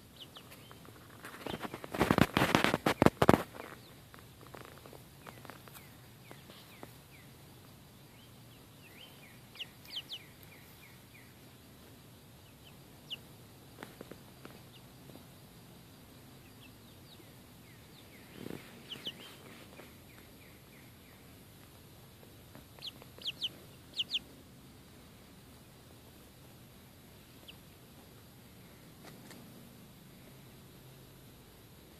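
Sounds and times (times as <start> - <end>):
chicks peeping: 0.0 - 29.6.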